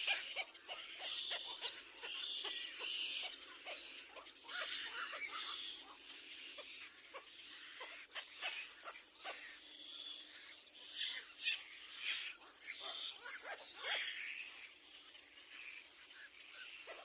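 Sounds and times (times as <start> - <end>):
cormorants calling: 0.0 - 17.0.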